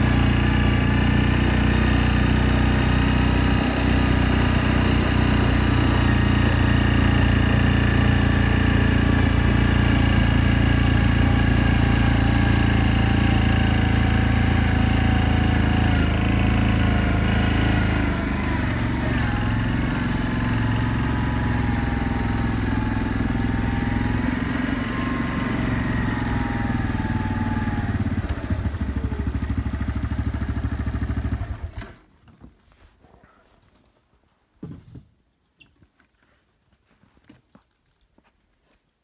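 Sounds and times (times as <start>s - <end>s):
atv engine whining: 0.0s - 32.0s.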